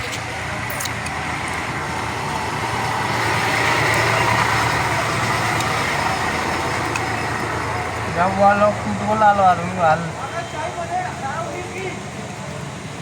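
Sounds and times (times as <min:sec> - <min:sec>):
motor vehicle running: 0:00.0 - 0:13.0.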